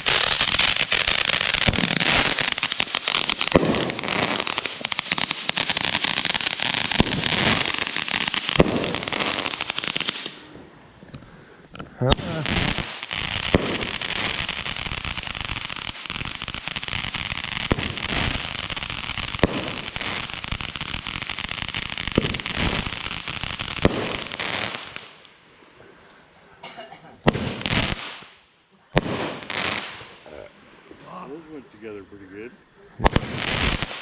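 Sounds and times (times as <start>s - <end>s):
fireworks bangs: 0.0s - 10.6s, 12.1s - 25.3s, 27.2s - 28.4s, 29.0s - 30.2s, 33.0s - 34.0s
fireworks crackling: 0.0s - 10.6s, 12.0s - 25.4s, 27.2s - 30.3s, 33.0s - 34.0s.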